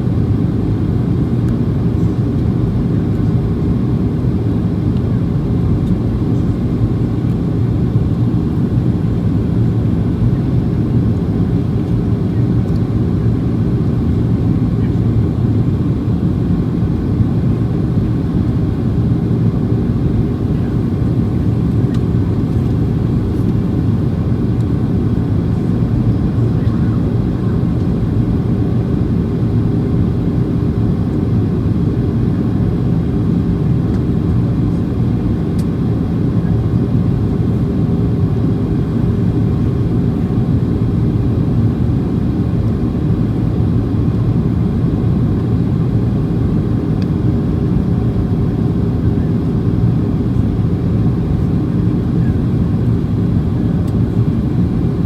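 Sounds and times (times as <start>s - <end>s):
airplane cabin low rumble: 0.0s - 55.0s.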